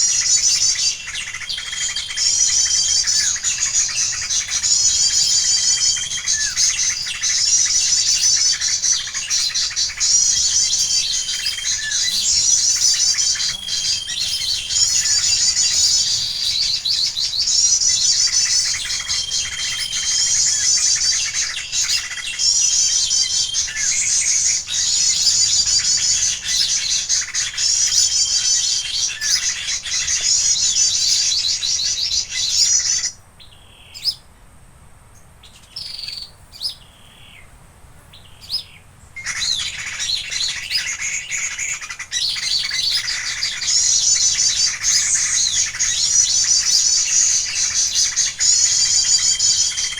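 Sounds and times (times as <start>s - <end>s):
songbird chirping trills: 0.0s - 34.3s, 38.1s - 49.9s.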